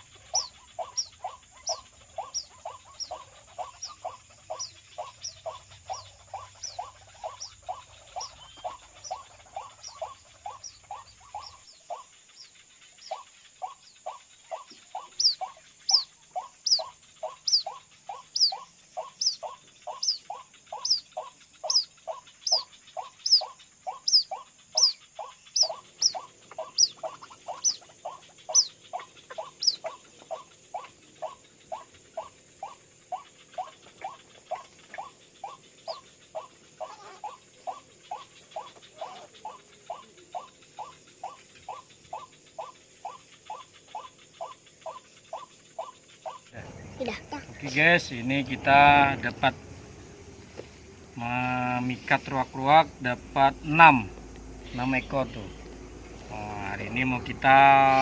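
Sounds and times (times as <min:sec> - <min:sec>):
waterhen calls: 0:00.0 - 0:58.0.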